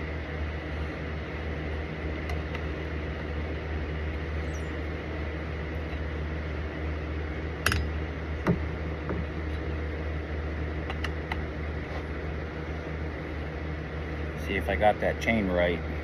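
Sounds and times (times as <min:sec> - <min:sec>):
heavy machinery engine drone: 0:00.0 - 0:16.0.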